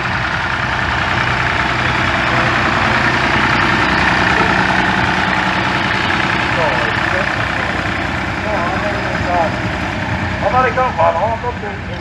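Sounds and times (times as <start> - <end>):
tractor engine driving past: 0.0 - 12.0.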